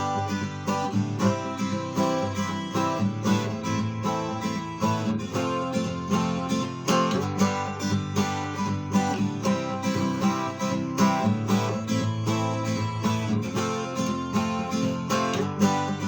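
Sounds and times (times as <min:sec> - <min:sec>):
twelve-string acoustic guitar chords: 0:00.0 - 0:16.0.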